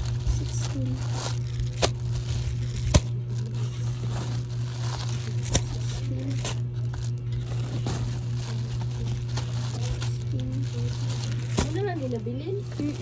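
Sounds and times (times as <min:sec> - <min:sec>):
plastic packaging crinkling: 0:00.0 - 0:13.0
steady low hum: 0:00.0 - 0:13.0.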